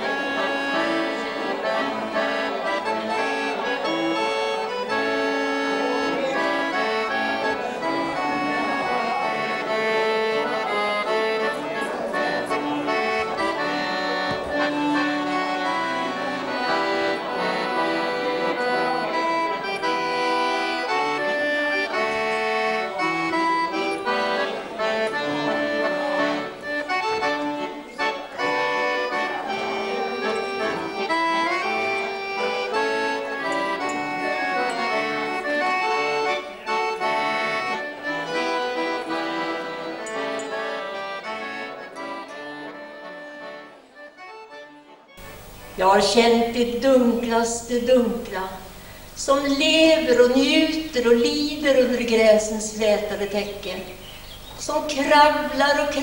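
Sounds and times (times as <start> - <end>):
button accordion playing: 0.0 - 56.0.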